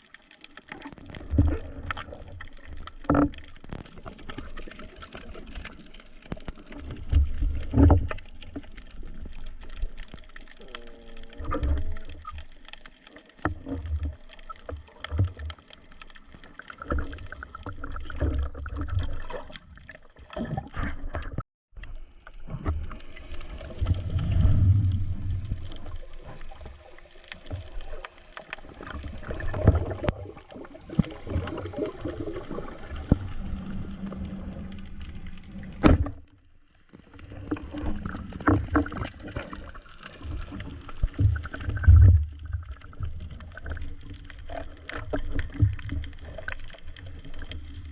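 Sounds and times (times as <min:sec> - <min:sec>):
water sloshing and gurgling: 0:00.0 - 0:47.9.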